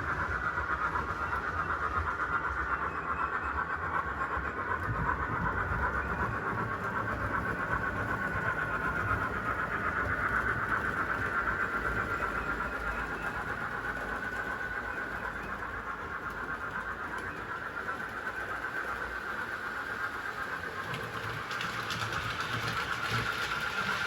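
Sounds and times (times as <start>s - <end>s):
wheels rattling on rails: 0.0s - 24.0s.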